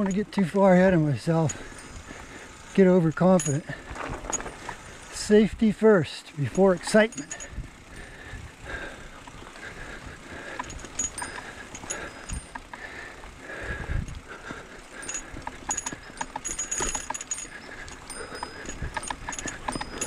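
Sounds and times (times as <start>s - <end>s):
bike parts rattling and clicking: 0.0s - 20.0s.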